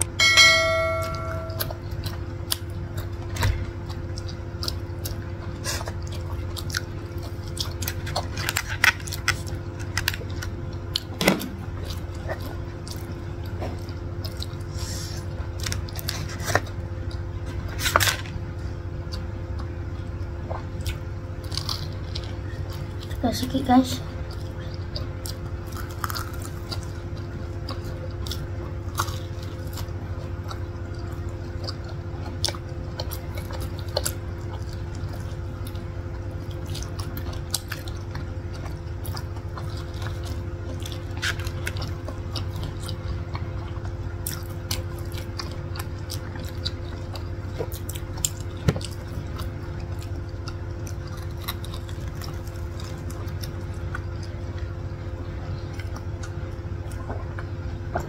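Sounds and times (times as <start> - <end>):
low hum: 0.0 - 58.0
people chewing crispy food: 1.5 - 58.0.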